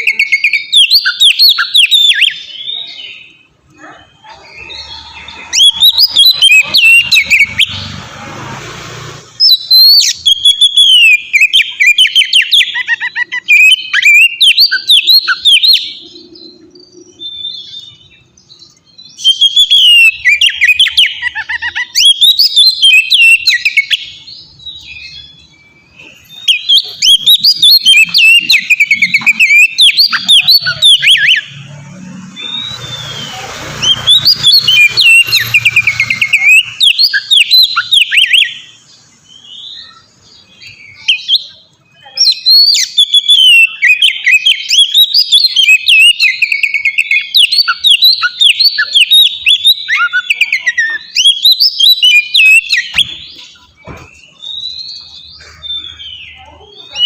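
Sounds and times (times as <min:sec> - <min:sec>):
bird singing whistled song: 0:00.0 - 0:07.9, 0:09.4 - 0:31.7, 0:32.3 - 0:57.0.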